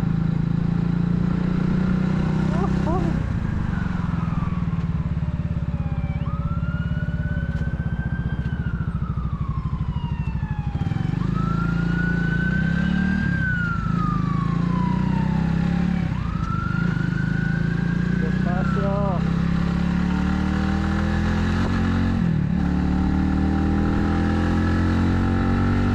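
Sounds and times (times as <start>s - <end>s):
motorcycle engine running: 0.0s - 25.9s
siren wailing: 2.0s - 19.3s, 20.9s - 25.9s.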